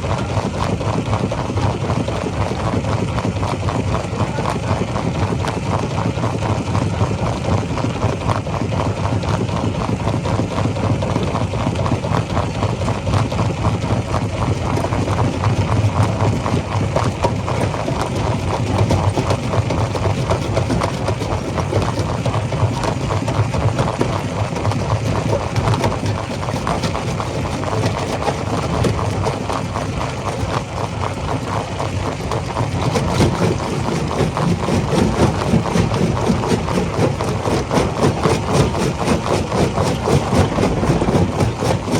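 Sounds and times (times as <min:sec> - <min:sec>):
rock crusher machine hum: 0:00.0 - 0:41.9.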